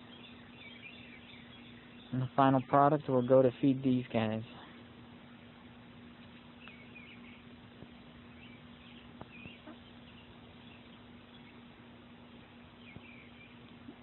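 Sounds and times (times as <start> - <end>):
faint high bird chirps: 0.0 - 3.8, 6.2 - 14.0
steady low hum: 0.0 - 14.0.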